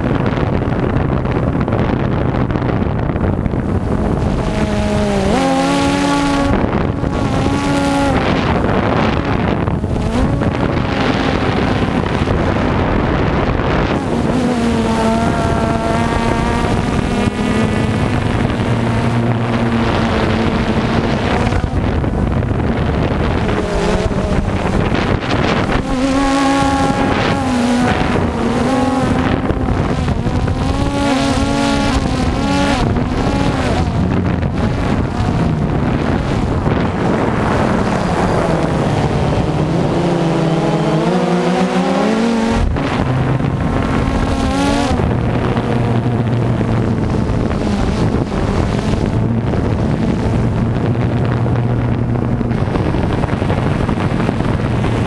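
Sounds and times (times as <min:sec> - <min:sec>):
drone propellers whining: 0:00.0 - 0:55.0
wind rushing: 0:00.0 - 0:55.0.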